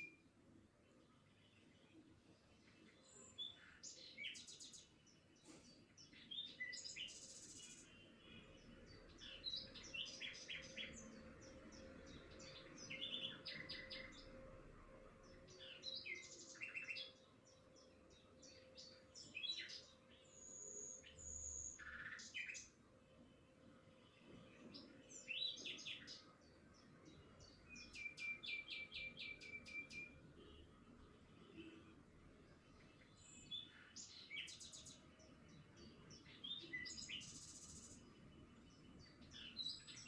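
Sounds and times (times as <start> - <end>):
birds chirping and trilling: 1.2 - 14.4, 15.2 - 22.7, 24.0 - 30.6, 31.4 - 40.0.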